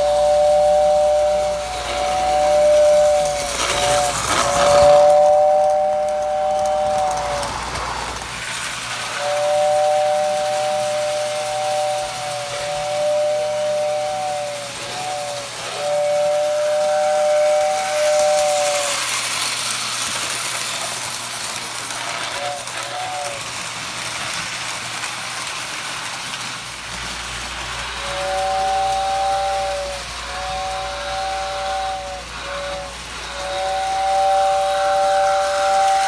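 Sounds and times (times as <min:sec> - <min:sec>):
steady rushing hiss: 0:00.0 - 0:36.0
toy train whistle blasts: 0:00.0 - 0:36.0.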